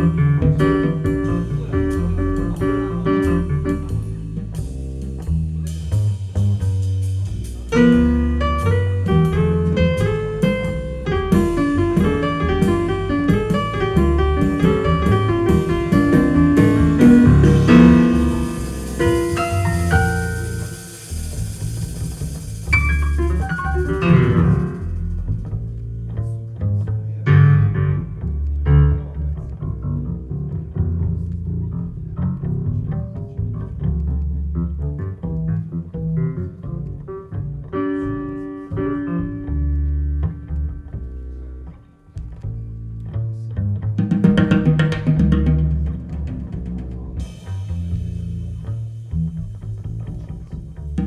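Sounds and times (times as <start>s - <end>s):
plucked double bass: 0.0s - 51.0s
string instruments: 0.0s - 51.0s.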